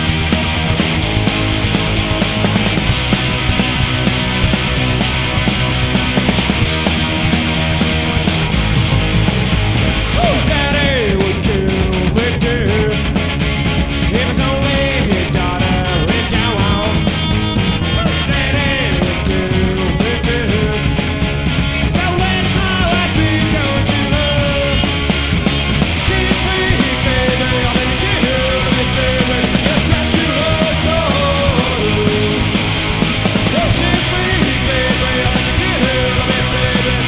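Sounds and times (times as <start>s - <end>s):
punk rock song: 0.0s - 37.0s.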